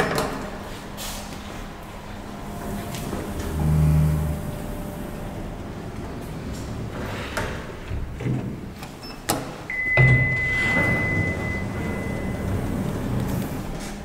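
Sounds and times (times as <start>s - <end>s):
doors sliding open rumble: 0.0s - 14.0s
elevator arrival tone: 1.4s - 14.0s.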